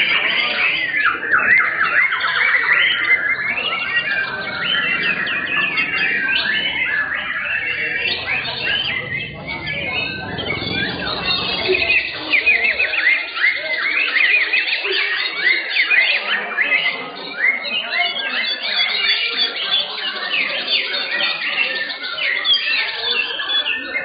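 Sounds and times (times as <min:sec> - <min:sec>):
chorus of songbirds singing: 0:00.0 - 0:24.0.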